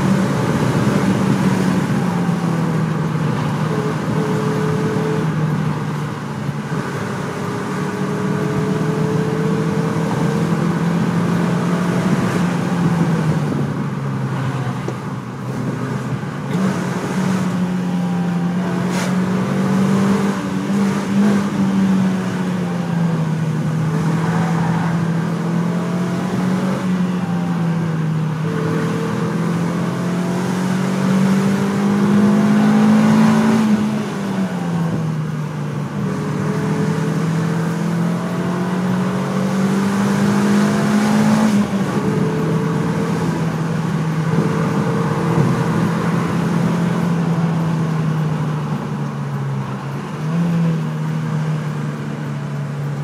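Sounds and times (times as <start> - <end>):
car engine accelerating: 0.0 - 53.0.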